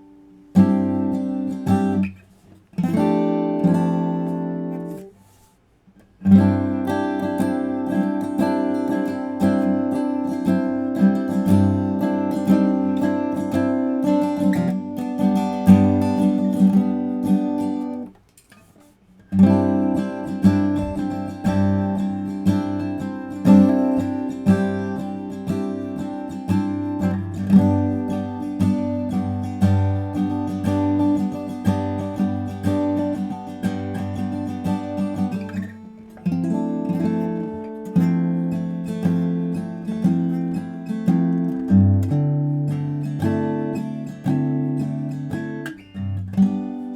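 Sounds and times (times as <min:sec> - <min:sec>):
acoustic guitar playing: 0:00.0 - 0:46.9.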